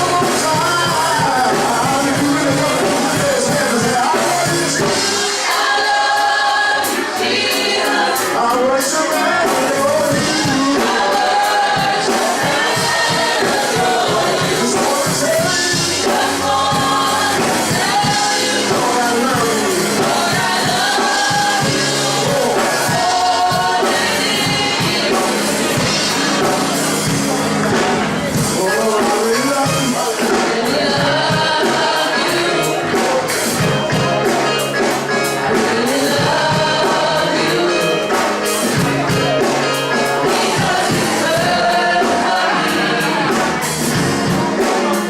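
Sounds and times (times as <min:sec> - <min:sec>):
gospel choir singing with band: 0:00.0 - 0:45.0.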